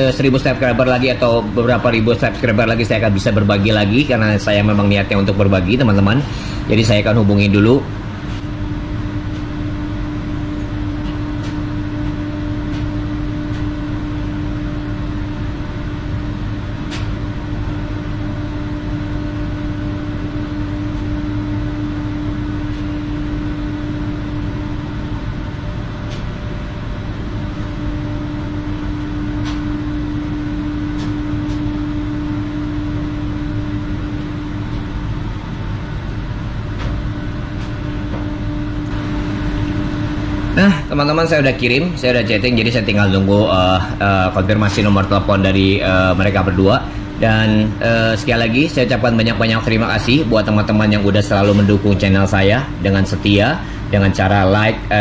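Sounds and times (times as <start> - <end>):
machine hum with low rumble: 0.0 - 55.0.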